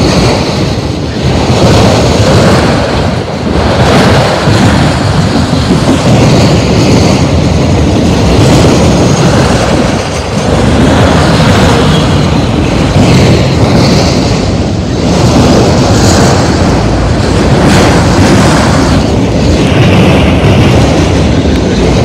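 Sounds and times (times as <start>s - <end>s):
train wheels running on rails: 0.0s - 22.0s.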